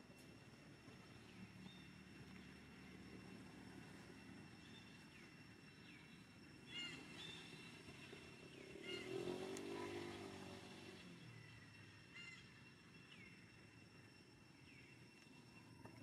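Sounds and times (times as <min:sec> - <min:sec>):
faint vehicle engine passing: 0:00.7 - 0:14.8.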